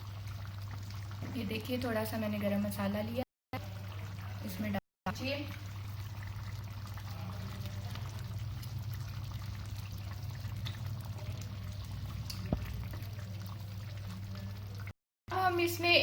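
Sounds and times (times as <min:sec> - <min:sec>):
pot bubbling softly: 0:00.0 - 0:15.0.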